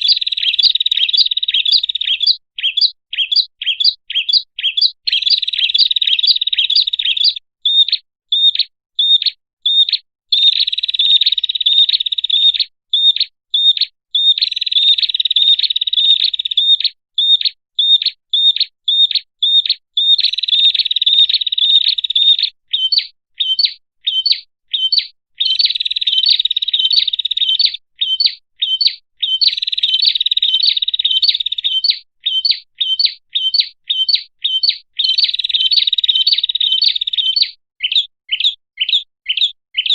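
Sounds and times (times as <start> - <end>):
bird chirps and chattering trills: 0.0 - 39.9.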